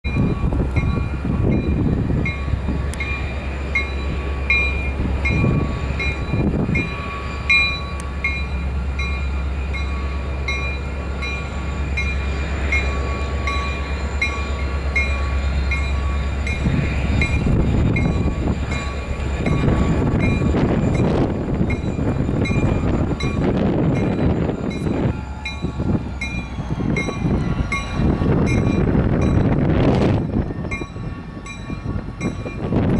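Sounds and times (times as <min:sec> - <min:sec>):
freight train rumbling past: 0:00.0 - 0:32.9.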